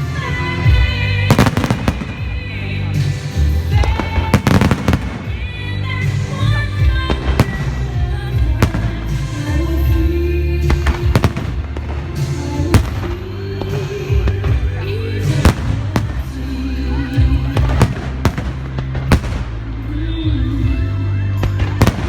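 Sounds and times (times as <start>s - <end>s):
fireworks bursting with bangs: 0.0s - 22.0s
music with heavy bass: 0.0s - 22.0s.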